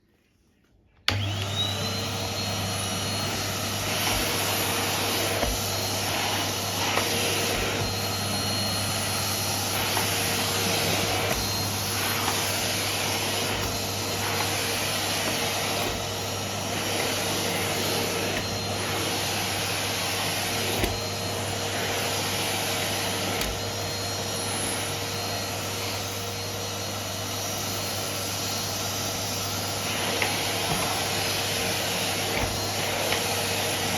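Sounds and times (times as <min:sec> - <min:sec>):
vacuum cleaner running: 0:01.0 - 0:33.9.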